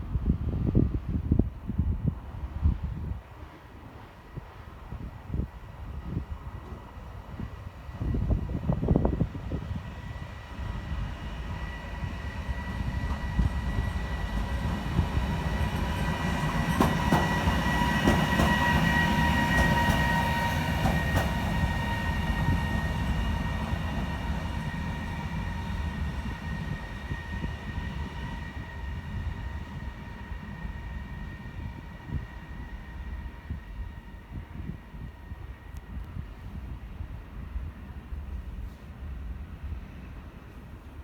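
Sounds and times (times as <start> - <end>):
train passing: 0.0 - 41.0.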